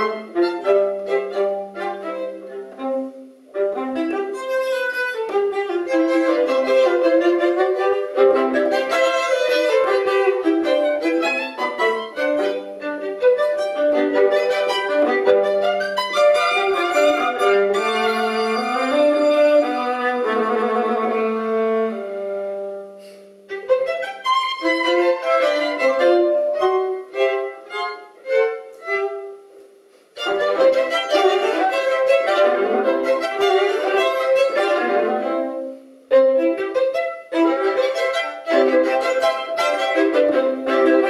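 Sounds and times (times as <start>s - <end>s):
violin trio playing classical music: 0.0s - 41.0s.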